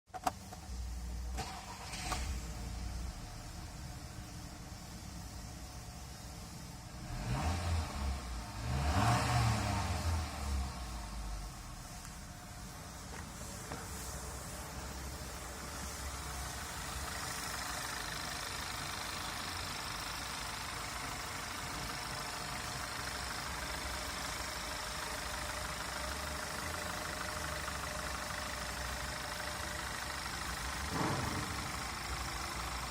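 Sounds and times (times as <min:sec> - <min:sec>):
engine running steadily: 0:00.1 - 0:32.9.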